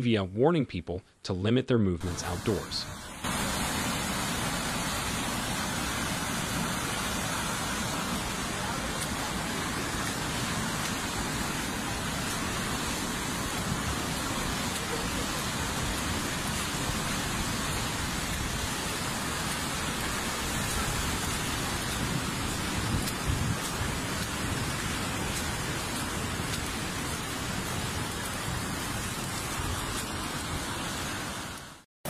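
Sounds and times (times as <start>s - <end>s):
floodwater rushing: 2.0s - 31.8s.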